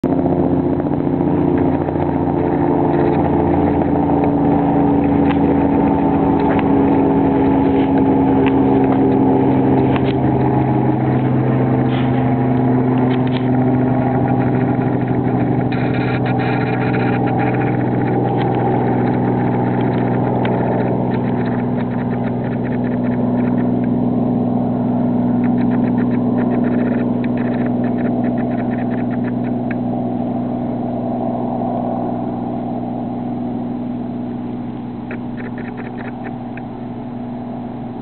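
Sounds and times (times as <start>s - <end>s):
helicopter flying overhead: 0.0s - 38.0s.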